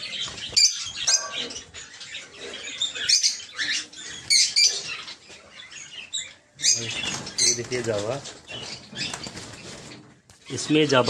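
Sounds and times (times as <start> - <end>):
caged birds chirping: 0.0 - 11.0.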